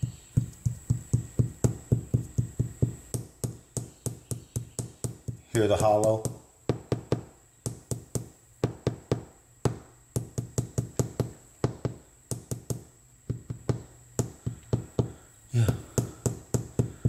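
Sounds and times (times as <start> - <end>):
tapping on hollow floorboard: 0.0 - 17.0.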